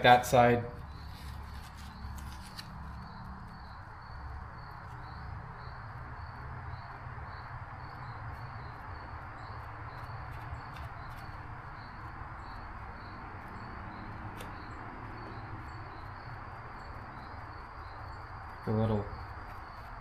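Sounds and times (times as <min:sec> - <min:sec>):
constant low hum: 0:00.0 - 0:20.0
cricket chirping: 0:00.0 - 0:20.0.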